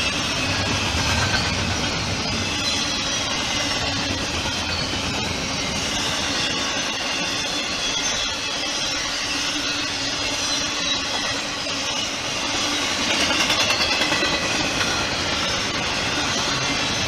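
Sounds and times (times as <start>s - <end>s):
freight train rumbling past: 0.0s - 17.0s
train wheel clatter: 0.0s - 17.0s.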